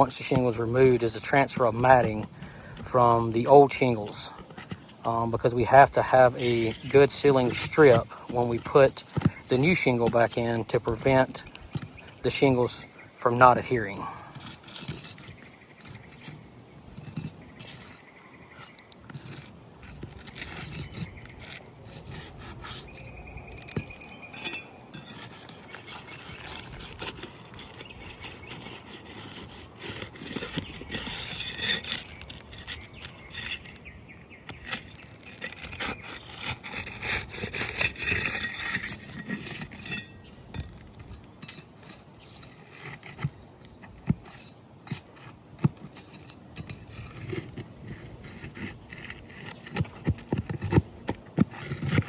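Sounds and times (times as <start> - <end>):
pry bar scraping under shingles: 0.0 - 52.0.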